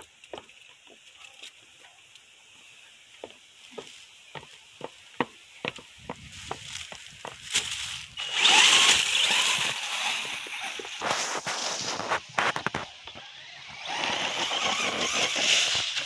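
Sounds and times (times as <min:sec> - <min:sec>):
rc truck driving over grass and leaves: 0:00.0 - 0:16.0.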